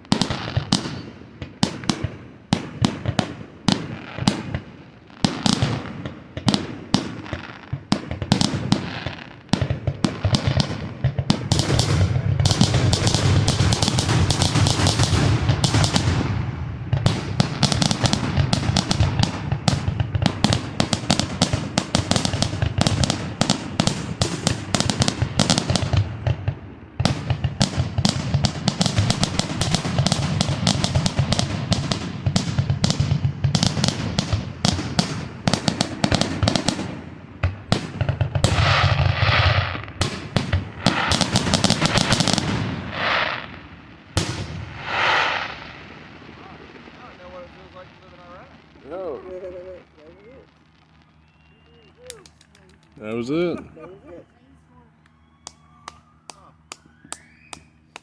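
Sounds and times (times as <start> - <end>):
fireworks bangs and crackles: 0.0 - 53.6, 55.2 - 58.0.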